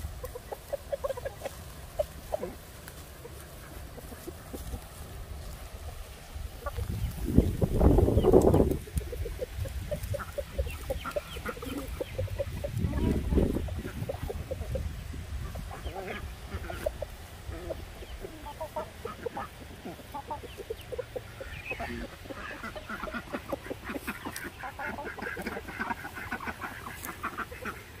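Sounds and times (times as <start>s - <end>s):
chickens and ducks clucking: 0.0s - 28.0s.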